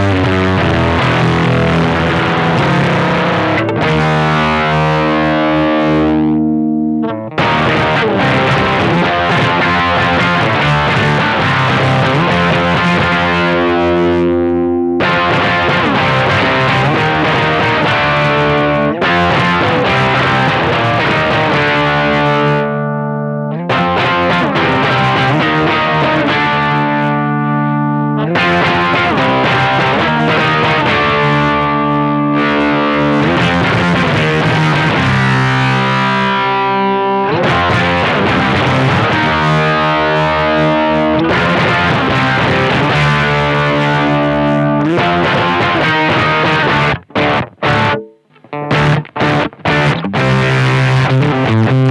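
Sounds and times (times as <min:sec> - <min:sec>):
distorted fuzz guitar chords: 0:00.0 - 0:51.9.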